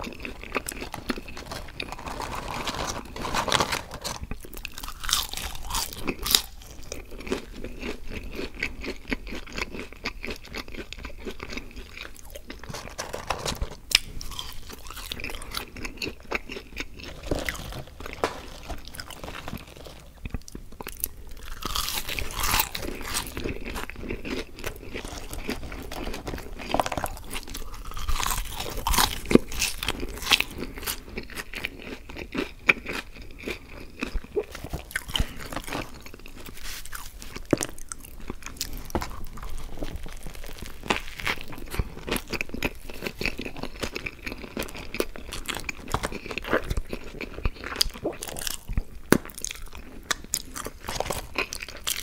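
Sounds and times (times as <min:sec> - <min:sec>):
person chewing crunchy food: 0:00.0 - 0:52.0.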